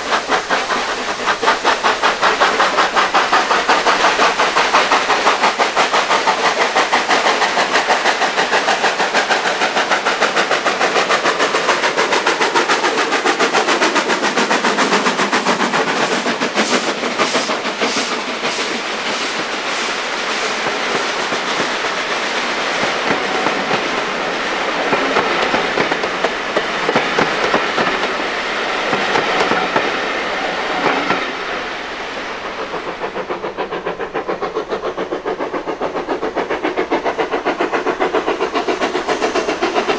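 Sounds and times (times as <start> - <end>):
steam locomotive exhaust pulsing: 0.0 - 39.9
train wheels clicking on rail joints: 0.0 - 39.9.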